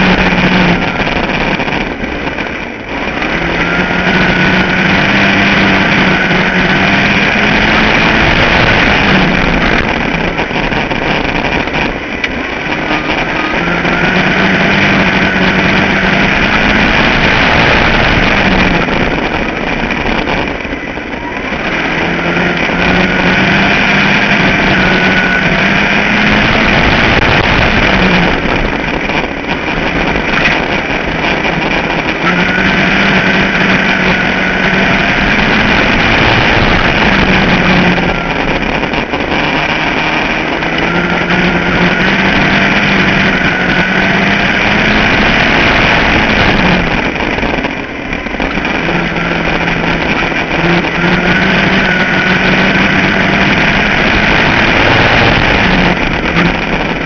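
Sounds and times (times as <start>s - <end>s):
race car engine running hard: 0.0s - 57.0s
wind noise: 0.0s - 57.0s.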